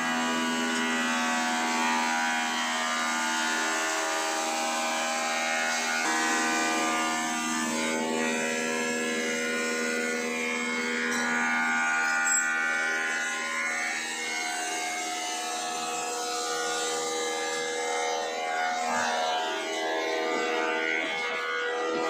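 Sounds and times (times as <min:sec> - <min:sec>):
bandsaw running: 0:00.0 - 0:22.0.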